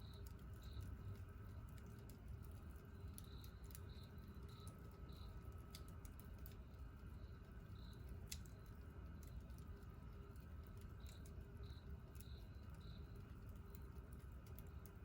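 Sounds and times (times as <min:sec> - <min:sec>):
insect chirping: 0:00.0 - 0:01.2, 0:02.6 - 0:05.9, 0:06.5 - 0:14.9
campfire crackling and popping: 0:00.0 - 0:15.0.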